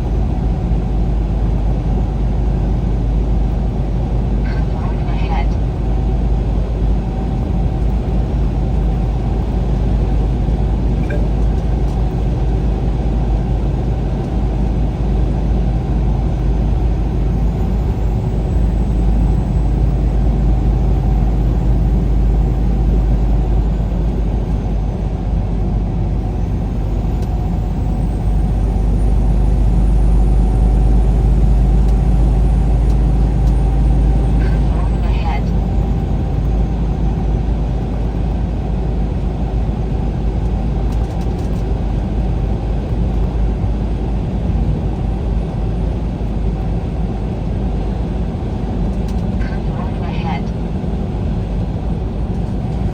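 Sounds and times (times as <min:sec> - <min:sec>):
vehicle driving at road speed: 0:00.0 - 0:52.9.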